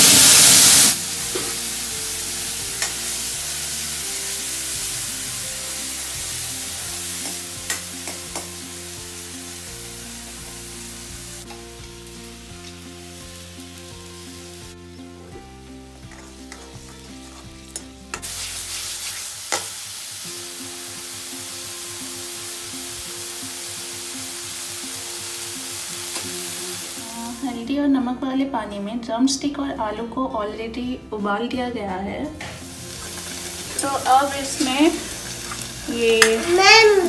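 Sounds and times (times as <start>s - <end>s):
paste sizzling in hot oil: 0.0s - 27.6s, 32.6s - 37.0s
soft background music: 0.1s - 37.0s.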